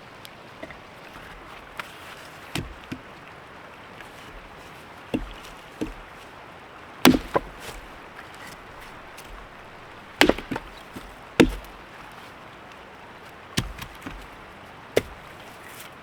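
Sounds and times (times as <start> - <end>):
firewood being chopped: 0.6 - 3.3, 4.0 - 6.4, 7.0 - 16.0.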